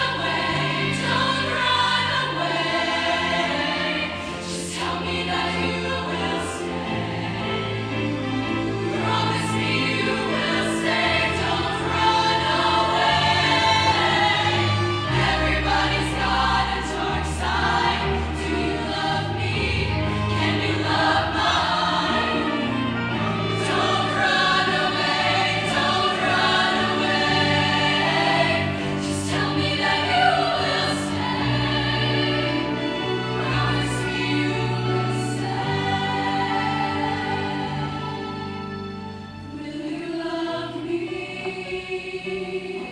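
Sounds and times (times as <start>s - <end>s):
choir singing a slow ballad: 0.0s - 42.9s.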